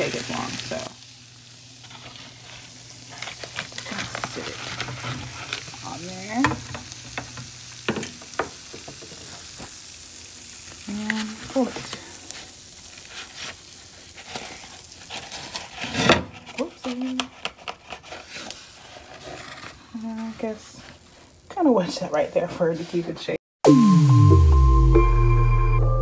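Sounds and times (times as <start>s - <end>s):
skillet sizzling: 0.0s - 24.6s.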